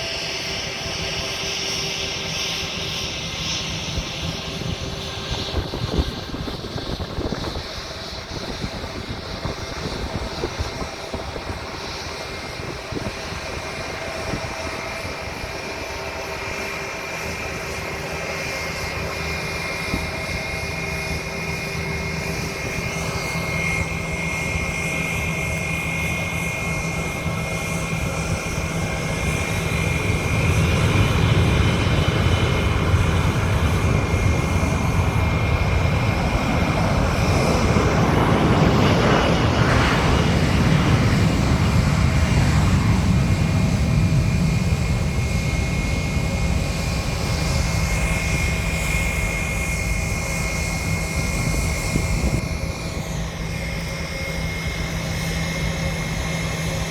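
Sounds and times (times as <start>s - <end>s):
airplane engine taking off: 0.0s - 56.9s
steady high whine: 0.0s - 56.9s.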